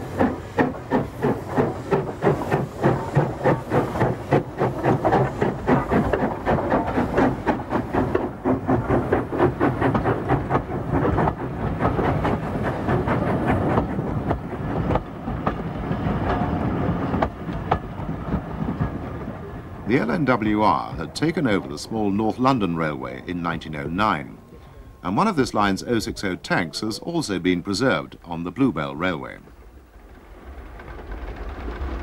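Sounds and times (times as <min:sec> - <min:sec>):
steam locomotive exhaust beating: 0:00.0 - 0:32.0
train wheels clicking over rail joints: 0:00.0 - 0:32.0.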